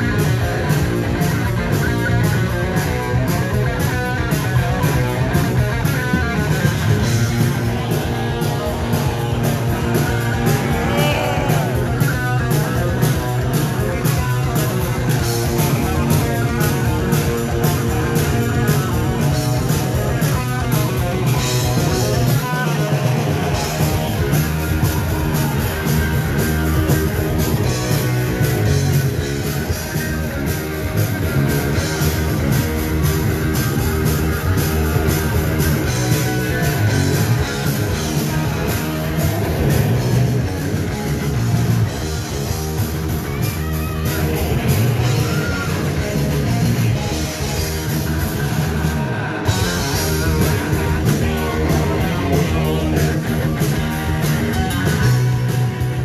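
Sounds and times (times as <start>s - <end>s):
heavy metal band playing live: 0.0s - 56.0s.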